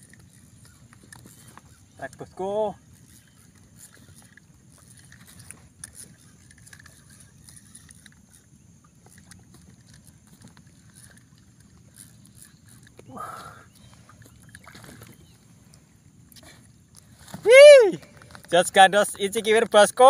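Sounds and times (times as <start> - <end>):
faint lapping water: 0.0 - 20.0.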